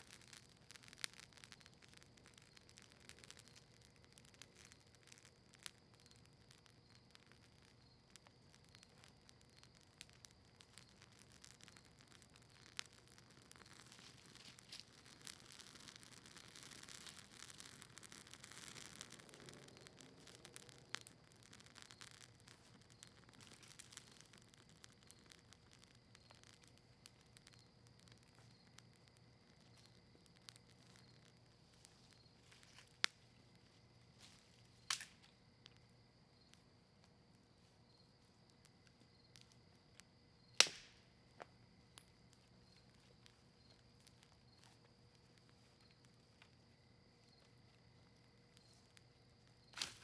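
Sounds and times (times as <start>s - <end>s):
campfire crackling: 0.0s - 50.0s
sharp fire pops: 0.0s - 50.0s.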